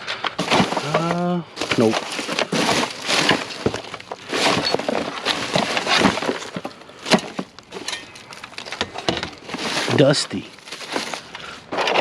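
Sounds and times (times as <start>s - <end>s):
hard items clattering and clinking: 0.0s - 12.0s.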